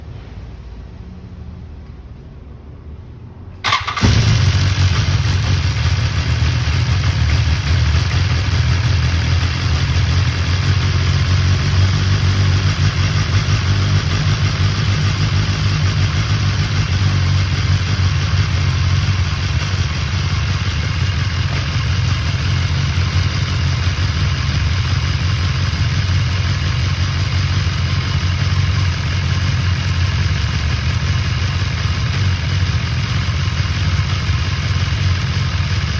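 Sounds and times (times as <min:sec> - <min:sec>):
motorcycle engine starting and idling: 0:03.5 - 0:35.9
engine rattle: 0:03.6 - 0:35.9.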